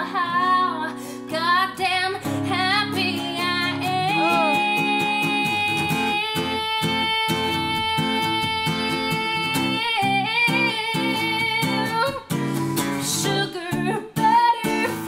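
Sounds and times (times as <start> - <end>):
strummed acoustic guitar: 0.0 - 15.0
woman singing with vibrato: 0.0 - 15.0.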